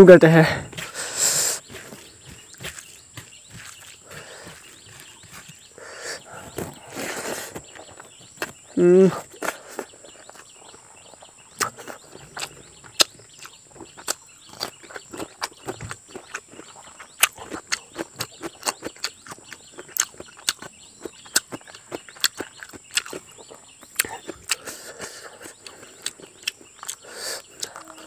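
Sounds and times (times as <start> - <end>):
person chewing food: 0.7 - 28.0.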